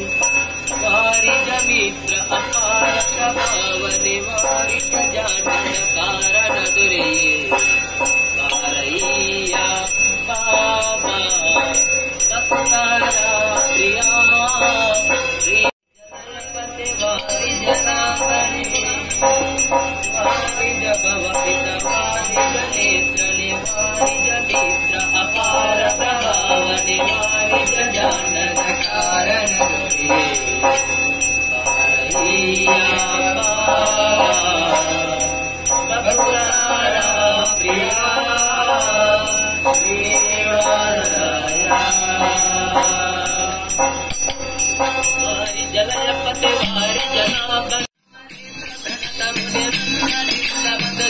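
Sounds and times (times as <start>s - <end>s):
person singing devotional song: 0.0s - 51.0s
small bells jingling: 0.0s - 51.0s.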